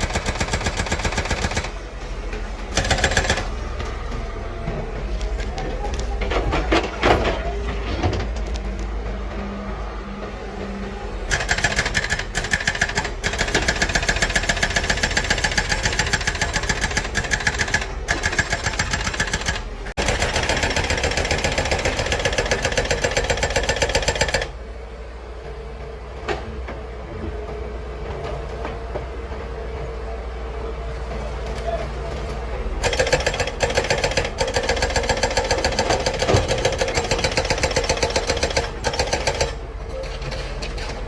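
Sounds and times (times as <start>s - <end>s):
demolition machine metallic clatter: 0.0s - 9.4s, 10.5s - 24.8s, 30.9s - 41.0s
excavator diesel engine running: 0.0s - 41.0s.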